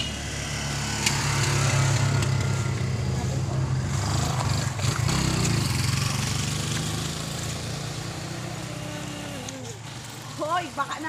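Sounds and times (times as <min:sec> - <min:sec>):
motorcycle engine riding away: 0:00.0 - 0:11.0.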